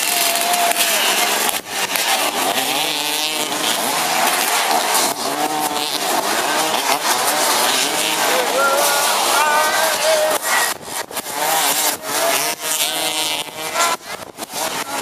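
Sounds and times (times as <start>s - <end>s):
loud steady rushing noise: 0.0s - 15.0s
racing engines revving: 0.0s - 15.0s.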